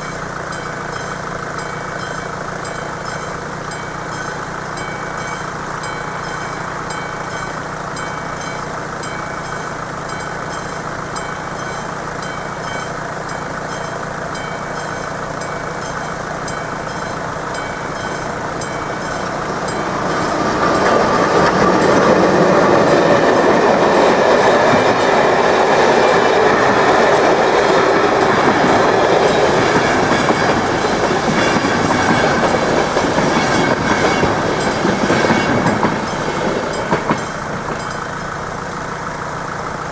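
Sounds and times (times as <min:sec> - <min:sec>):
idling road vehicles hum: 0:00.0 - 0:39.9
level crossing warning bell: 0:00.0 - 0:39.9
train passing at speed: 0:00.0 - 0:39.9.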